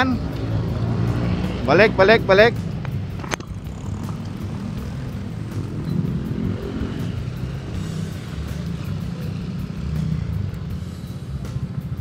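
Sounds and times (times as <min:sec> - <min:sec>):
motor vehicles passing: 0:00.0 - 0:12.0.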